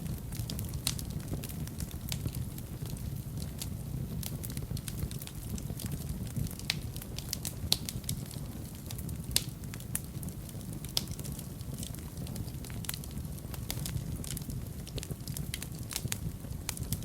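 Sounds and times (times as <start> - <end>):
flames rumbling: 0.0 - 17.0
wood fire crackling and popping: 0.0 - 17.0.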